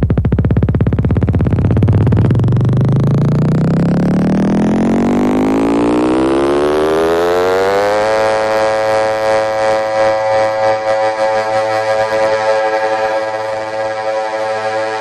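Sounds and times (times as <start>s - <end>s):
synthesizer tone gliding upward: 1.5s - 15.0s.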